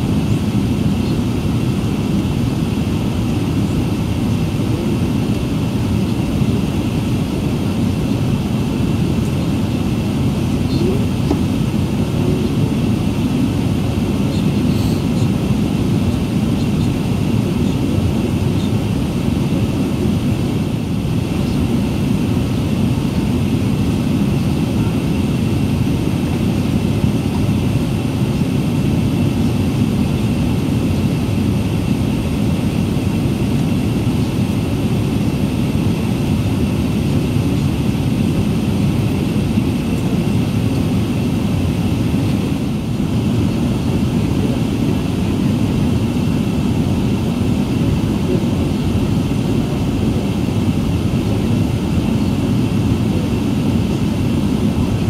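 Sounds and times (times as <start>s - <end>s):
aircraft engines taxiing: 0.0s - 55.0s
cabin air noise: 0.0s - 55.0s.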